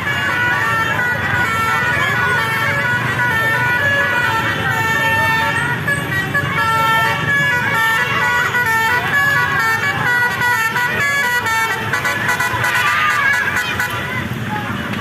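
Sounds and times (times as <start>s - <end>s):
multi-tone bus horn melody: 0.0s - 14.5s
bus noise: 0.0s - 15.0s.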